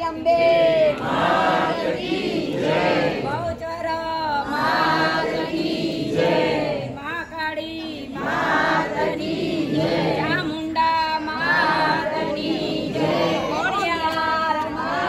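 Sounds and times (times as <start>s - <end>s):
crowd singing a hymn: 0.4s - 3.6s, 4.4s - 7.0s, 7.8s - 15.0s.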